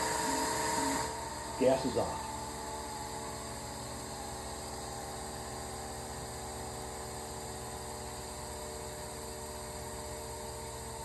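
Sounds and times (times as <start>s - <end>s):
model jet engine hum and whine: 0.0s - 11.0s.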